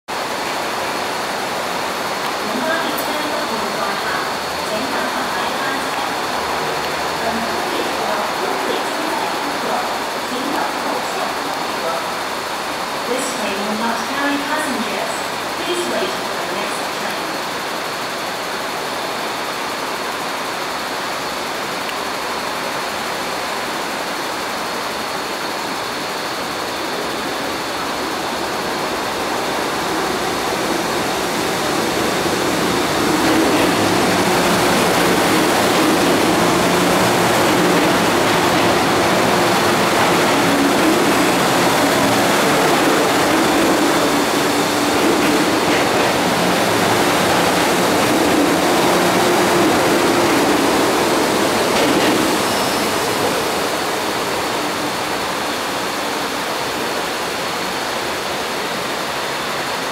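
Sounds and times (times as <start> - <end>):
steady rushing noise: 0.0 - 59.9
train passing through station: 0.0 - 59.9.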